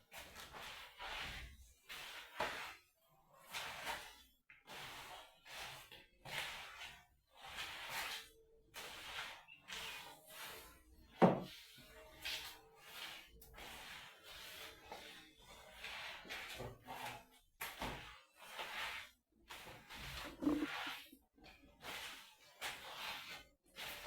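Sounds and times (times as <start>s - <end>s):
broom sweeping floor: 0.0s - 24.0s.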